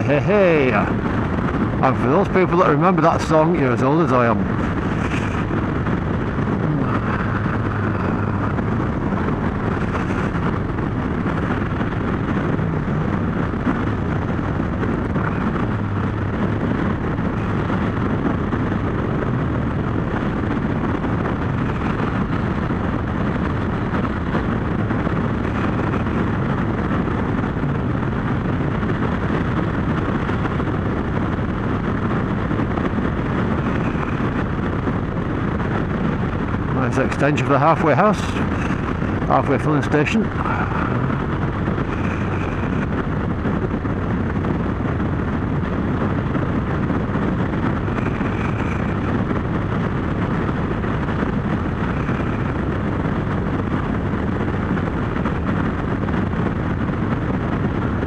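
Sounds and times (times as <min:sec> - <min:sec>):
wind over microphone: 0:00.0 - 0:58.0
motorcycle engine running: 0:03.5 - 0:58.0.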